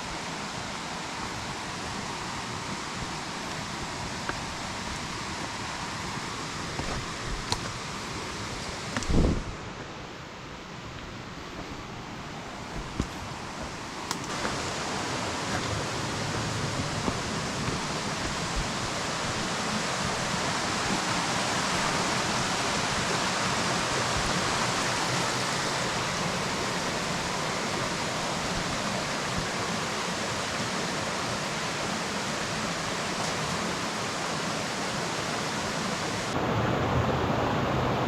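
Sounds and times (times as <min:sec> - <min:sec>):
waterfall rushing: 0:00.0 - 0:09.7, 0:11.8 - 0:38.0.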